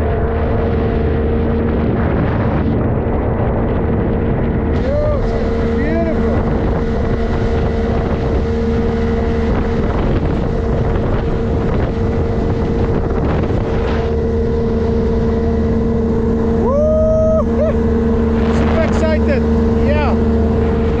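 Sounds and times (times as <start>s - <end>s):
motorboat engine drone: 0.0s - 21.0s
wind buffeting microphone: 0.0s - 21.0s.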